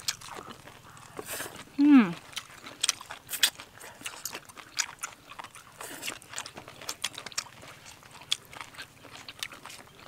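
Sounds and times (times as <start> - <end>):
mouth clicks from chewing: 0.0 - 10.0.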